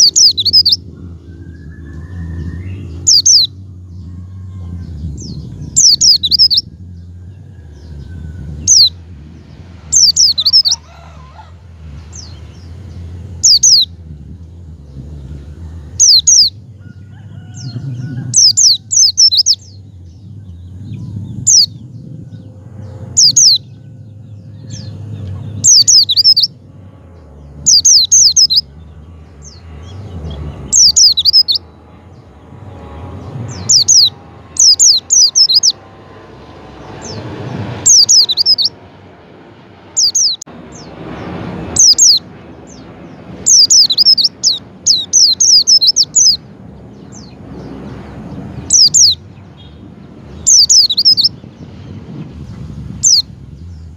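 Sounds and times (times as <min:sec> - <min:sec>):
bird chirping: 0:00.0 - 0:39.2, 0:39.8 - 0:53.9
low background rumble: 0:00.0 - 0:53.9.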